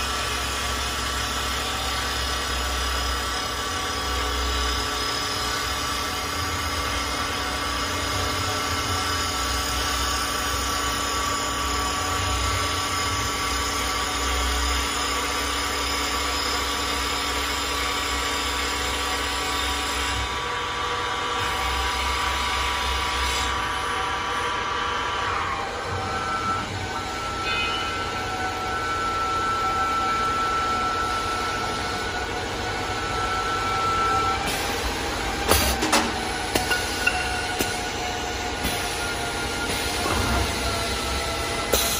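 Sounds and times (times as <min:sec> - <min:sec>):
wood lathe motor whine: 0:00.0 - 0:35.5.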